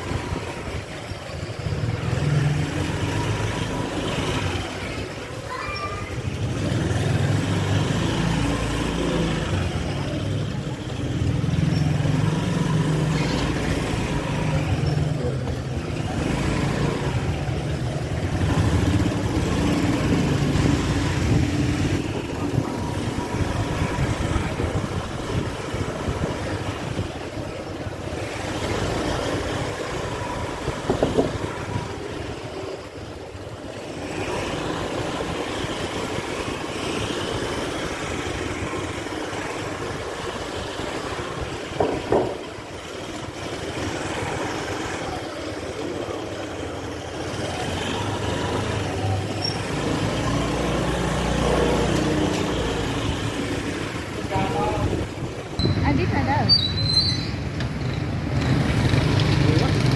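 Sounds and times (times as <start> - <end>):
street traffic: 0.0 - 59.9
motorbike engine running: 6.1 - 59.9.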